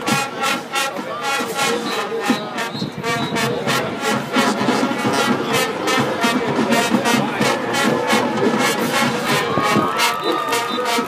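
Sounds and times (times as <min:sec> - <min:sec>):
drums: 0:00.0 - 0:11.0
marching band brass: 0:00.0 - 0:11.0.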